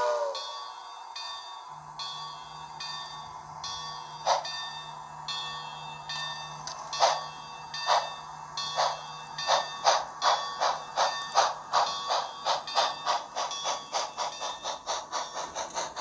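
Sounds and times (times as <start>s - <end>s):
model steam locomotive chuffs: 0.0s - 16.0s.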